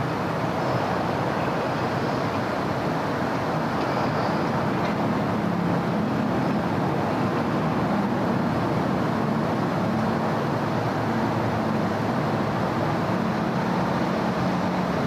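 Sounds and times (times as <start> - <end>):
low engine hum: 0.0 - 15.0
passing cars and tyre noise: 0.0 - 15.0.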